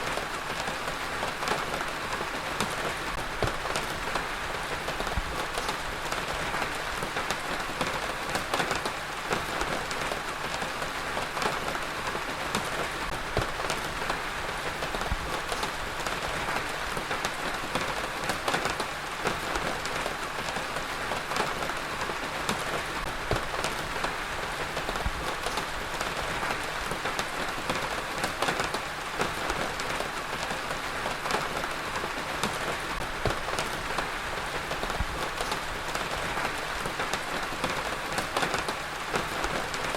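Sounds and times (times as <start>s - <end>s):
heavy rain falling on a surface: 0.0s - 39.9s.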